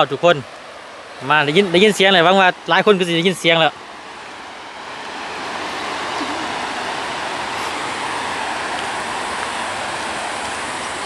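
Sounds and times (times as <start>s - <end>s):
dam water rushing: 0.0s - 11.0s.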